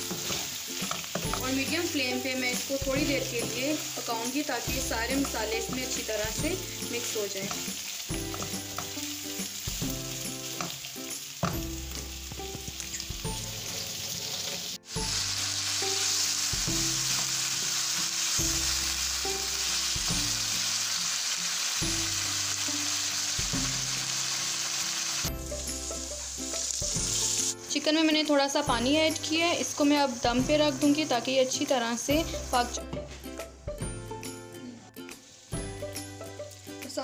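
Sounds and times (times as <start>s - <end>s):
chicken sizzling in a pan: 0.0s - 32.6s, 35.1s - 37.0s
soft background music: 0.0s - 37.0s.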